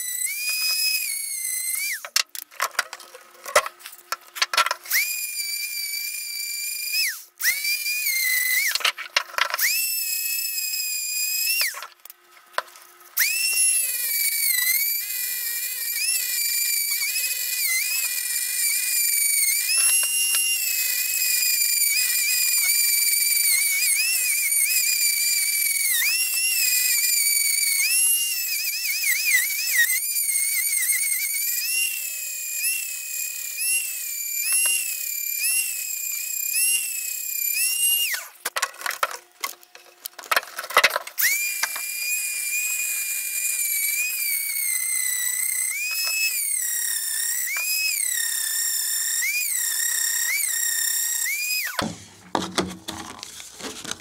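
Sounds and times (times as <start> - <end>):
rotary tool grinding plastic: 0.0 - 54.0.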